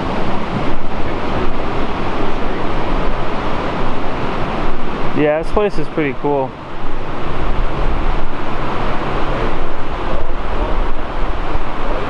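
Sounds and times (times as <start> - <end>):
steady rushing noise: 0.0 - 12.0
wind buffeting microphone: 0.0 - 12.0.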